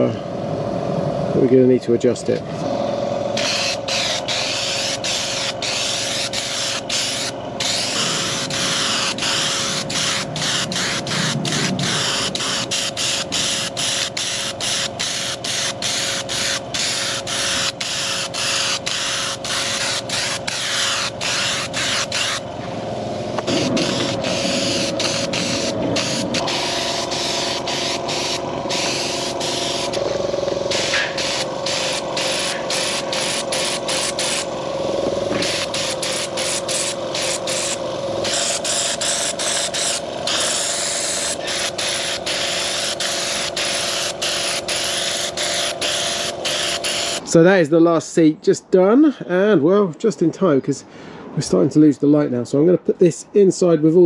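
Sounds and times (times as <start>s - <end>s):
compressor humming: 0.0s - 47.8s
spray gun hissing bursts: 3.4s - 47.2s.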